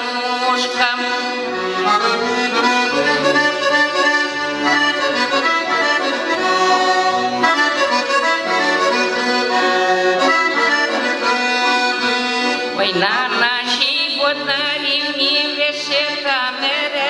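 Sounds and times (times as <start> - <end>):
instrumental folk melody: 0.0 - 17.0.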